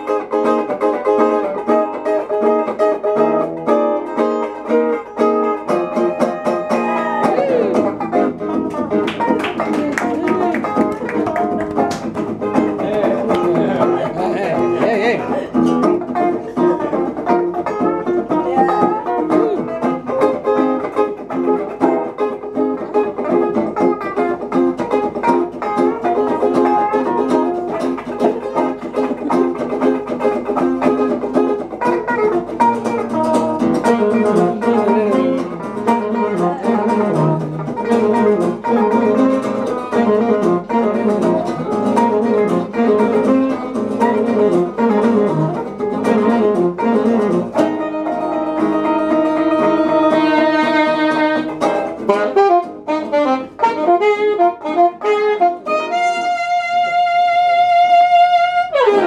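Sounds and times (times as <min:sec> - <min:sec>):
plucked string instruments: 0:00.0 - 0:59.0.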